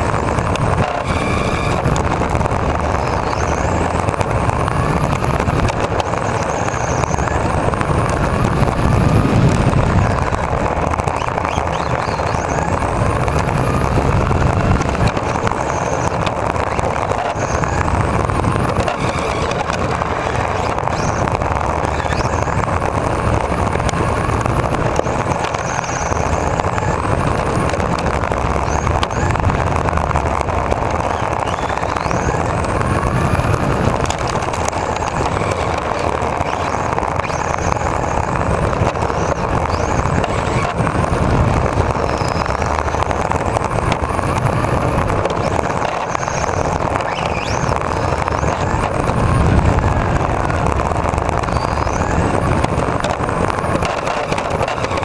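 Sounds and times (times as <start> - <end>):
high-pitched electric motor whine: 0.0 - 55.0
tyres rolling on paving: 0.0 - 55.0.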